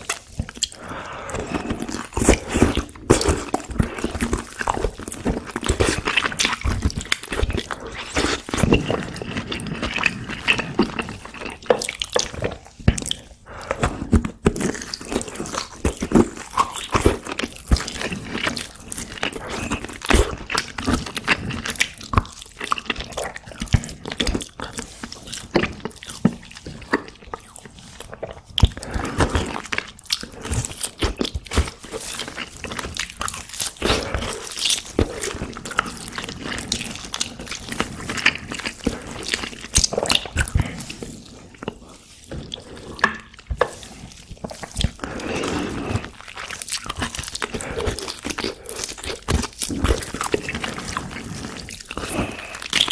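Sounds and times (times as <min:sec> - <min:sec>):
biting and chewing meat: 0:00.0 - 0:52.9.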